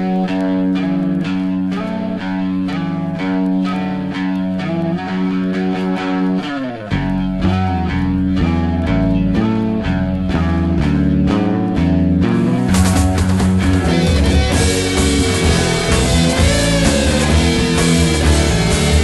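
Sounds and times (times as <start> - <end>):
heavy bass line: 0.0 - 19.0
rock background music: 0.0 - 19.0
sliding guitar phrase: 0.0 - 19.0.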